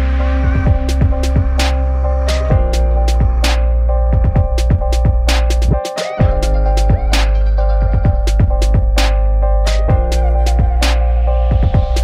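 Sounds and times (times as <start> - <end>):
deep sliding kick drums: 0.0 - 10.9, 11.5 - 12.0
held synth notes: 0.0 - 12.0
sharp percussion: 0.0 - 12.0.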